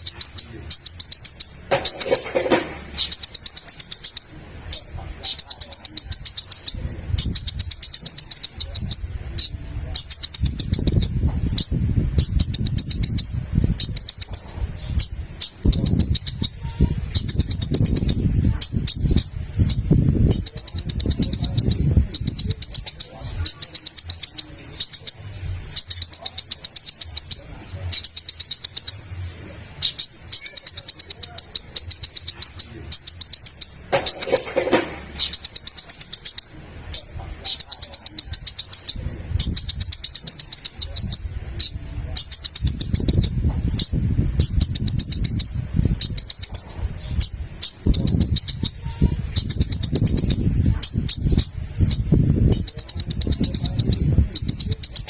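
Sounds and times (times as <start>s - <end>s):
bird twittering trills: 0.0s - 55.0s
low rumbling noise: 0.0s - 55.0s.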